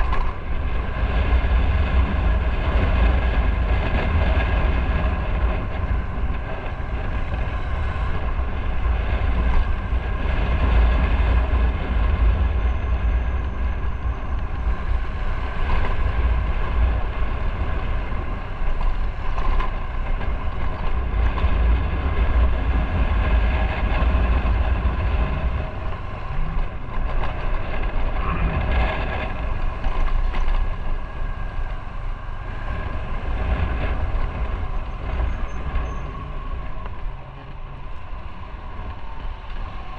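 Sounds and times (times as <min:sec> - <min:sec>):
motorcycle engine drone: 0:00.0 - 0:39.9
wind rumbling on microphone: 0:00.0 - 0:39.9.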